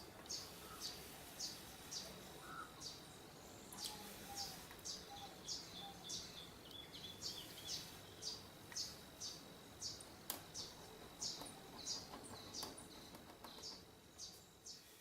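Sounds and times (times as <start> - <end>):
faint high-pitched whine: 0.0 - 15.0
small bird chirping: 0.2 - 15.0.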